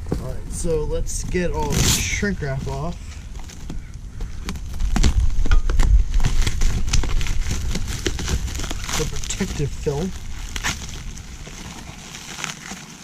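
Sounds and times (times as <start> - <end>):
plastic shrink wrap crackling: 0.0 - 13.0.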